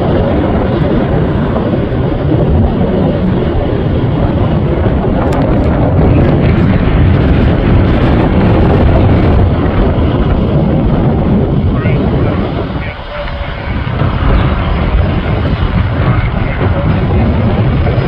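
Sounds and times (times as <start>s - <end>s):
jet engine rumble: 0.0s - 18.0s
wind buffeting microphone: 0.0s - 18.0s.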